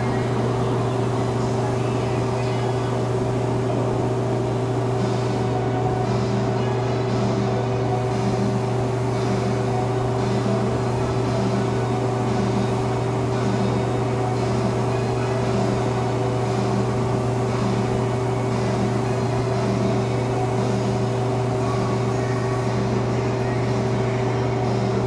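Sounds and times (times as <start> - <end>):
paint spray gun hissing: 0.0 - 6.4, 7.8 - 22.6
steady motor hum: 0.0 - 25.0.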